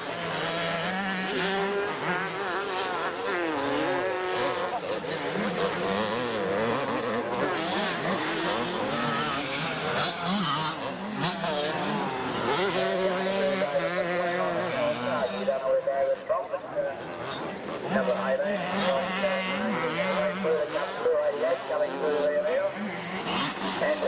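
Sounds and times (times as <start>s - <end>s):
motocross bikes racing: 0.0s - 24.0s.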